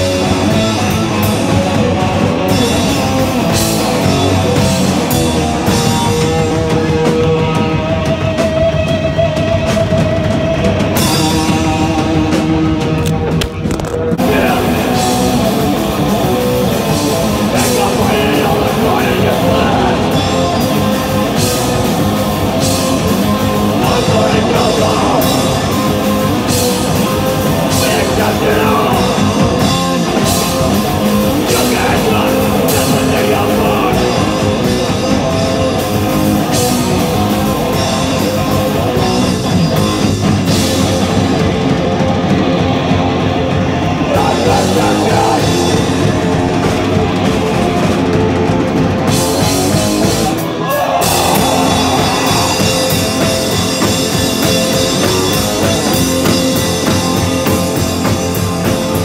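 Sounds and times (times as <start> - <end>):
live punk band playing: 0.0 - 59.0.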